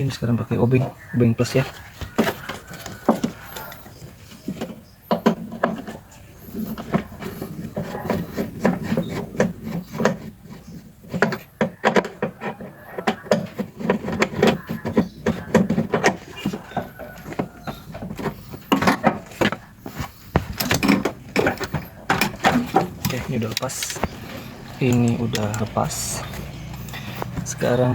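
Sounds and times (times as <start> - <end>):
metal and plastic clicks and scraping: 0.8 - 27.9.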